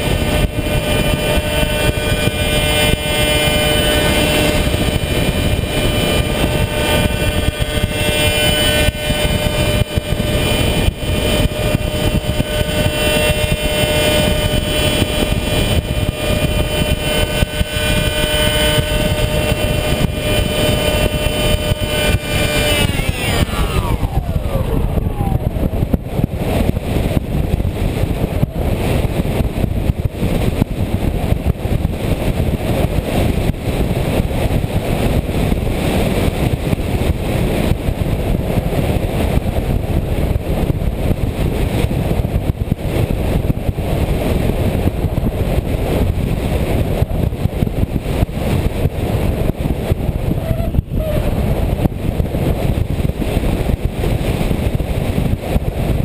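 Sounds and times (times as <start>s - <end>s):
model airplane propeller noise: 0.0s - 56.0s
wind rush: 0.0s - 56.0s.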